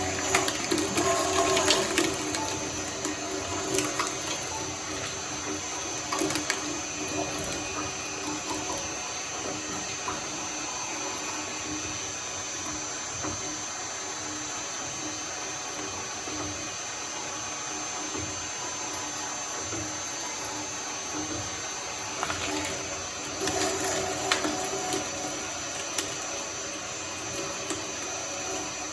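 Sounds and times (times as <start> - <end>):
shredder grinding slime: 0.0 - 17.3, 17.9 - 28.9.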